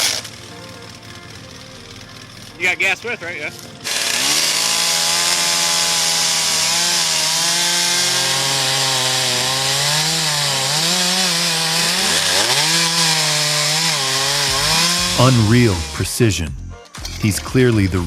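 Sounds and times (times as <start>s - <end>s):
chainsaw cutting wood: 0.0s - 16.3s, 16.9s - 17.5s.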